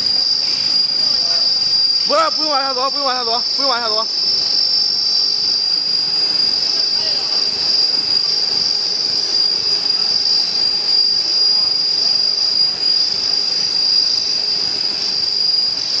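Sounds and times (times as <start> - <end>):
machinery running: 0.0 - 15.5
high-pitched machine whine: 0.0 - 16.0.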